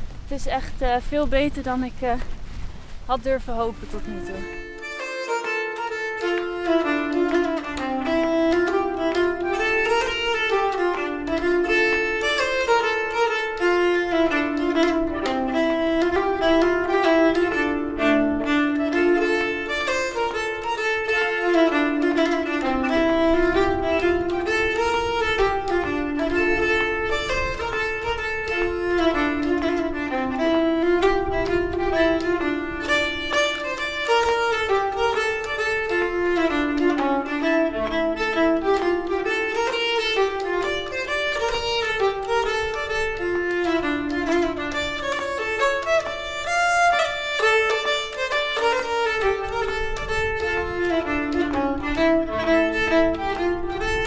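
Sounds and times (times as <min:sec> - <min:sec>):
bowed string folk tune: 0:00.0 - 0:54.0.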